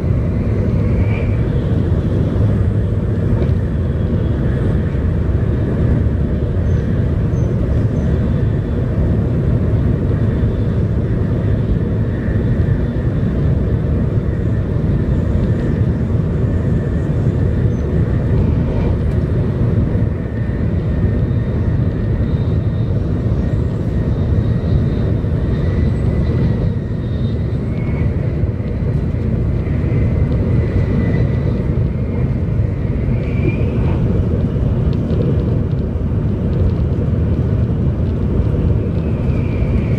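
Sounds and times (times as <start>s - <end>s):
train wheels and air rumble: 0.0s - 39.9s.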